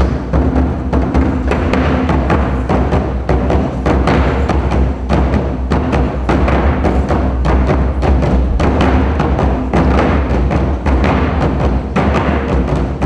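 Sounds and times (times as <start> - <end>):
barrel drums struck with sticks: 0.0 - 13.0.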